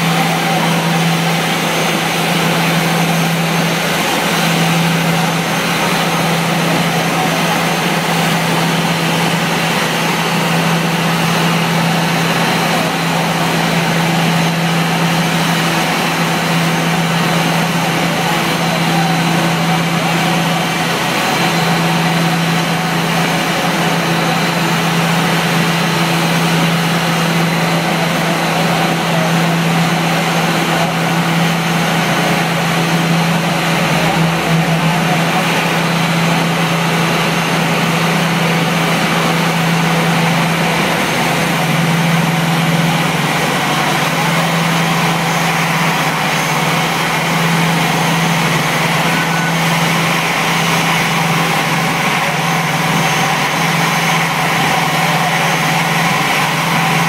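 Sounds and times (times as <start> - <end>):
tug engine humming: 0.0 - 57.0.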